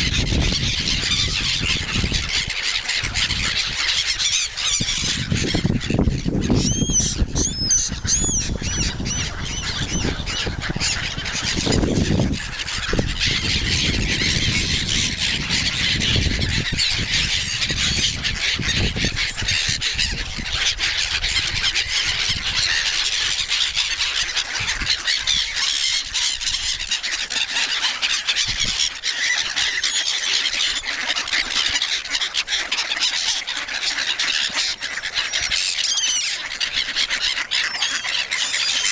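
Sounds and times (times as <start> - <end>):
swans and ducks calling: 0.0 - 38.9.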